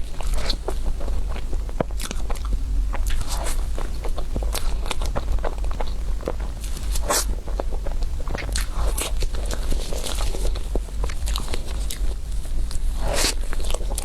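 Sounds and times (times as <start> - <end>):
wet chewing and mouth clicks: 0.0 - 14.0.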